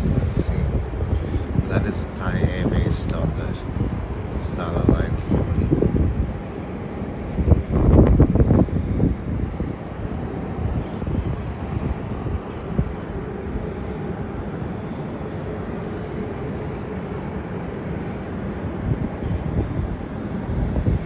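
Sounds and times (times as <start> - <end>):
distant jet engines rumbling: 0.0 - 21.0
faint jet engine whine: 0.0 - 21.0.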